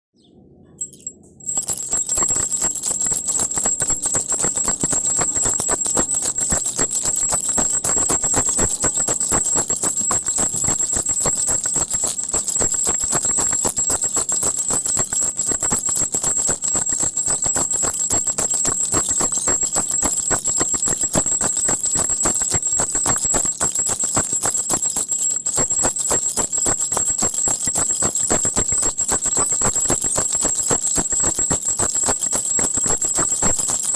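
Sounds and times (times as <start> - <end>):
baby rattle shaken: 0.8 - 33.9.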